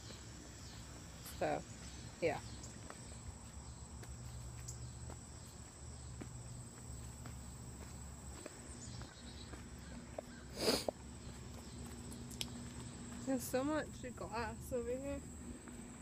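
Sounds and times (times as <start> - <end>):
footsteps on trail: 0.0 - 14.5
insects chirring: 0.0 - 16.0.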